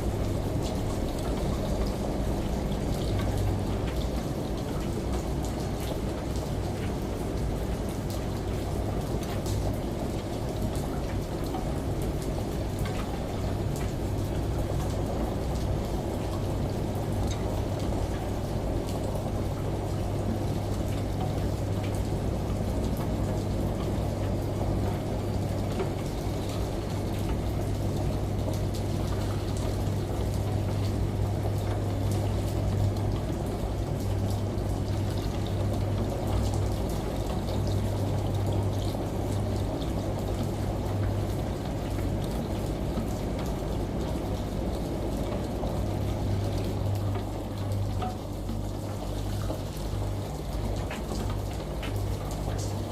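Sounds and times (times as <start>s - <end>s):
rain: 0.0s - 52.9s
shower water running: 0.0s - 52.9s
washing machine hum: 0.0s - 52.9s.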